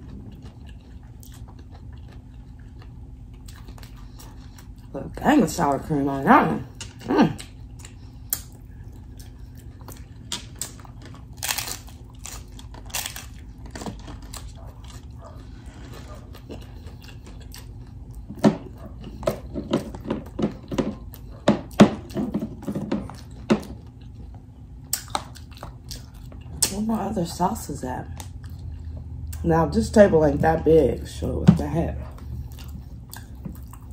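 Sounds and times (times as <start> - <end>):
crunchy taco chewing: 0.0 - 5.6, 6.7 - 29.8, 32.1 - 33.9.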